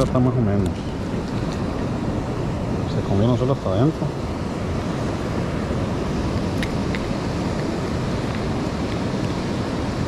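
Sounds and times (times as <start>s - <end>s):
ocean surf: 0.0s - 10.0s
wind rumble on microphone: 0.0s - 10.0s.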